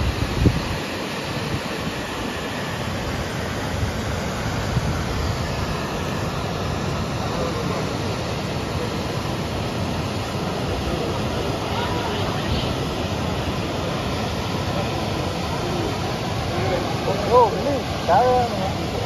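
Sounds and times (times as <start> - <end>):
waterfall rushing into a pool: 0.0 - 19.0.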